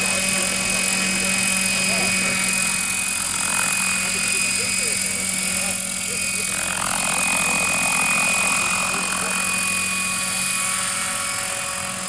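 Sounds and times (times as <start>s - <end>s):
model helicopter rotor humming: 0.0s - 12.0s.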